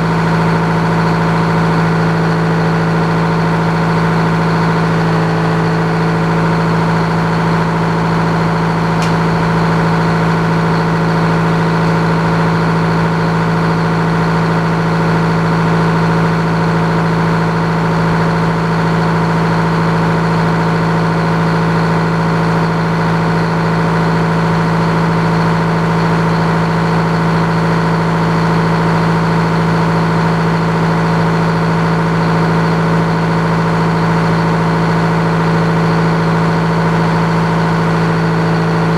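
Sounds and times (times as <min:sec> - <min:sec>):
sawmill power unit droning: 0:00.0 - 0:21.4, 0:27.4 - 0:38.9.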